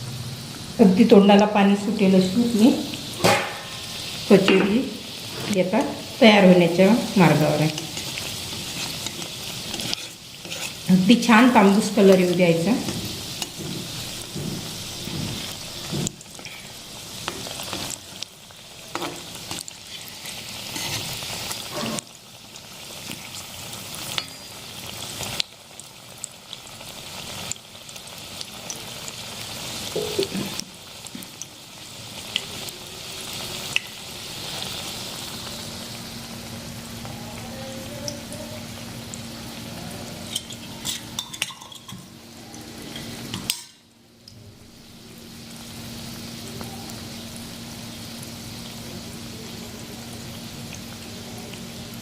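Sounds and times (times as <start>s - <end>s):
oil sizzling: 0.0s - 52.0s.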